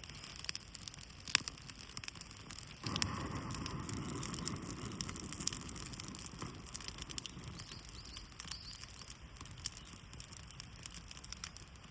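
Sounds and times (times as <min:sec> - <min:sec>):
bark crackling in fire: 0:00.0 - 0:11.9
soft rush of flame: 0:00.0 - 0:11.9.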